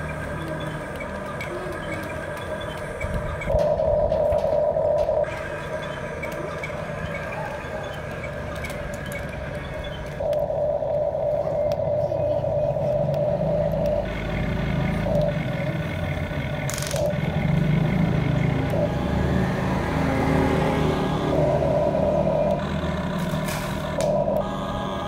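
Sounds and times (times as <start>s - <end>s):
toy electric motors whining: 0.0s - 25.0s.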